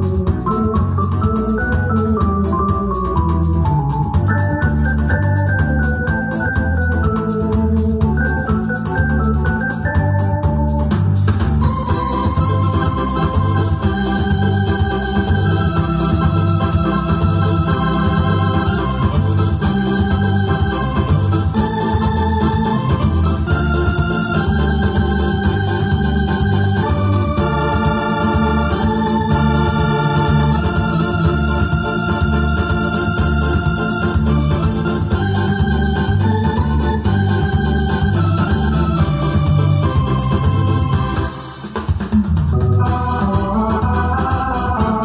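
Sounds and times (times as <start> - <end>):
repeating bass line: 0.0 - 41.4, 42.2 - 45.0
drum machine beat: 0.0 - 45.0
electronic keyboard organ melody: 0.0 - 45.0.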